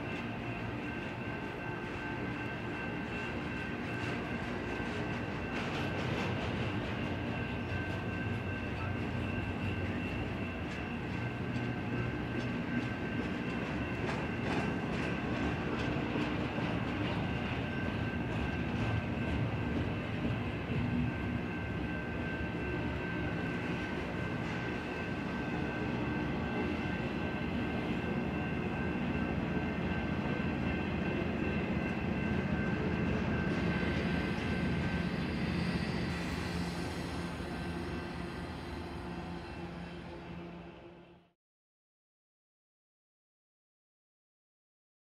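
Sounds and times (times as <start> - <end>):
freight train rumbling past: 0.0 - 41.3.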